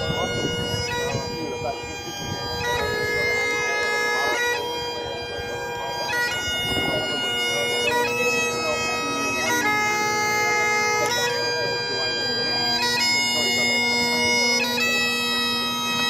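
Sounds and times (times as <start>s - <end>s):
bagpipe playing slow melody: 0.0s - 16.0s.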